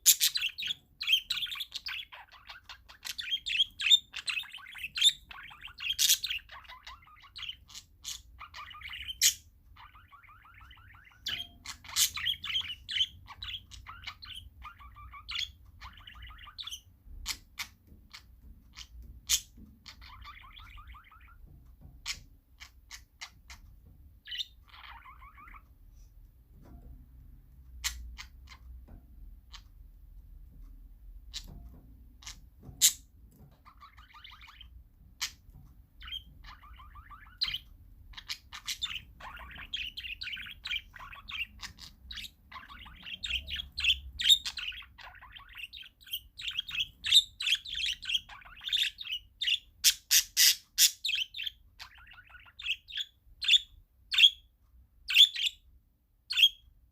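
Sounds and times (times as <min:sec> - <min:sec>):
parakeets chirping: 0:00.0 - 0:25.7, 0:27.7 - 0:29.7, 0:31.2 - 0:56.9.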